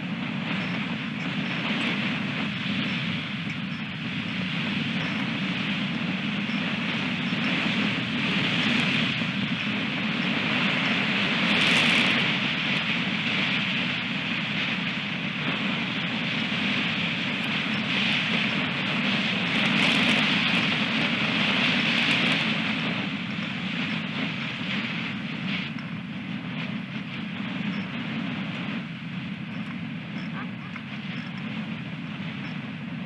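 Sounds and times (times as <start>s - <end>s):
strong wind on microphone: 0.0s - 33.0s.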